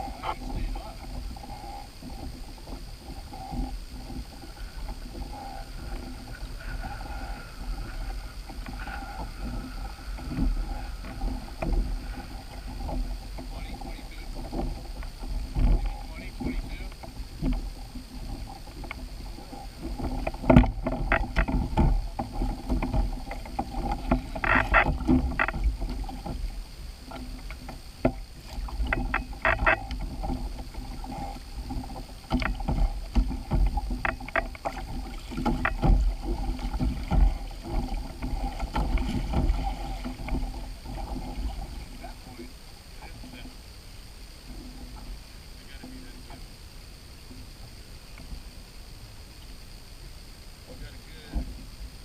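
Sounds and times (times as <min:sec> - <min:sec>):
knocks in a boat: 0:00.0 - 0:43.5, 0:51.2 - 0:51.8
steady low rumble: 0:00.0 - 0:52.0.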